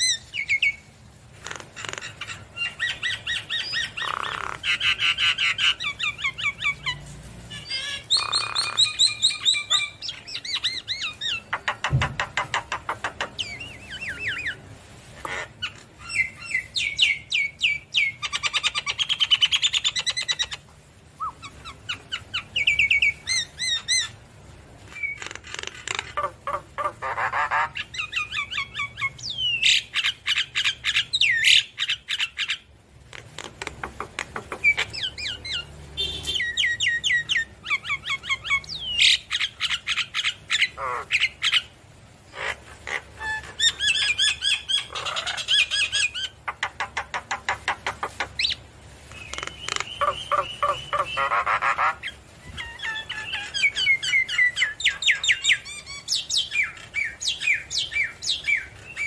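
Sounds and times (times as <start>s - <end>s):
bird singing varied song: 0.0s - 0.9s, 1.5s - 20.6s, 21.2s - 24.2s, 24.9s - 32.7s, 33.4s - 41.8s, 42.4s - 59.0s.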